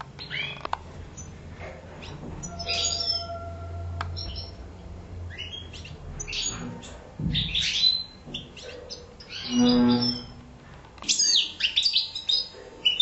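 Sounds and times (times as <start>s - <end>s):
finch chirping and twittering: 0.2s - 1.4s, 2.0s - 4.6s, 5.2s - 10.3s, 11.0s - 13.0s.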